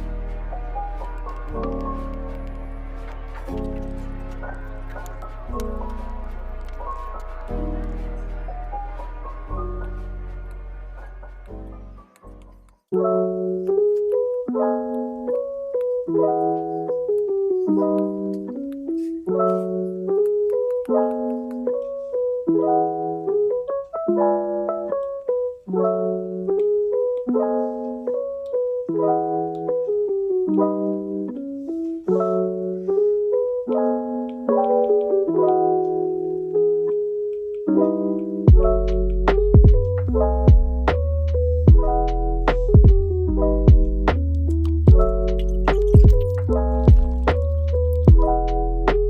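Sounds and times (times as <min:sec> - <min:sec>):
gentle piano tune: 0:00.0 - 0:49.0.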